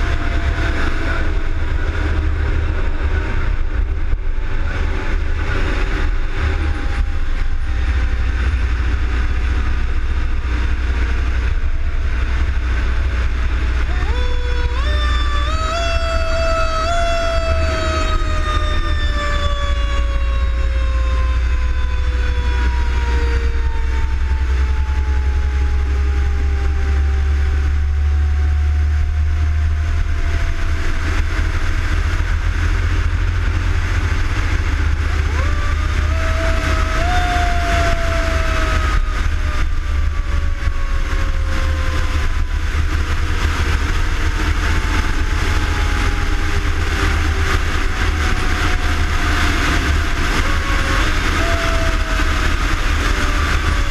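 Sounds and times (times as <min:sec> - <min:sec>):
fire engine rumble and road noise: 0:00.0 - 0:53.9
mechanical siren wailing: 0:00.0 - 0:53.9.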